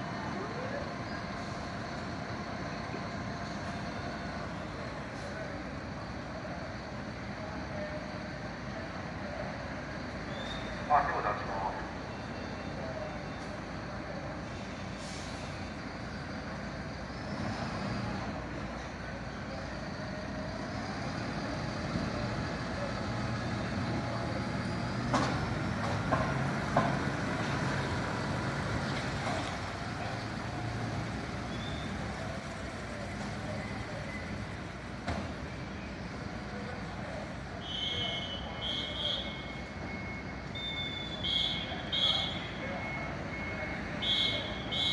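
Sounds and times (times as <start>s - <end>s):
traffic noise: 0.0s - 44.9s.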